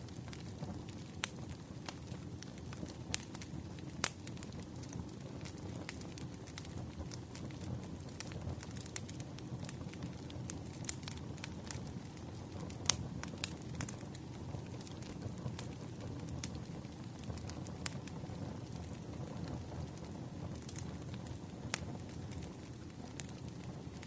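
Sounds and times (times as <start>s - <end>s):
fire pops and snaps: 0.0s - 24.0s
wood fire crackling: 0.0s - 24.0s.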